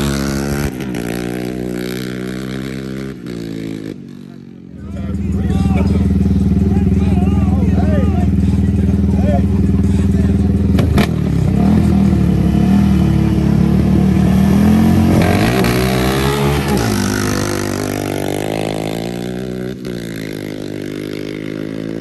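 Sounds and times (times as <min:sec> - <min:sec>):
atv engines revving: 0:00.0 - 0:22.0.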